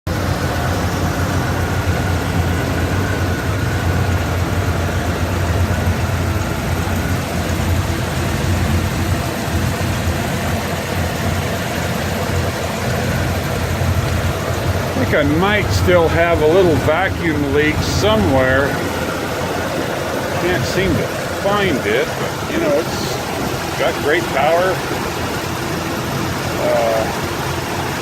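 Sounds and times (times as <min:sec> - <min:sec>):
truck engine idling: 0:00.1 - 0:28.0.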